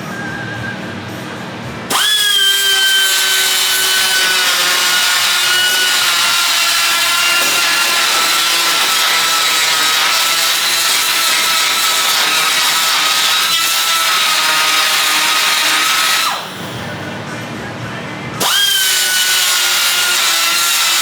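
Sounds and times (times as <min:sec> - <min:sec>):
angle grinder grinding metal: 0:01.9 - 0:17.0, 0:18.4 - 0:21.0.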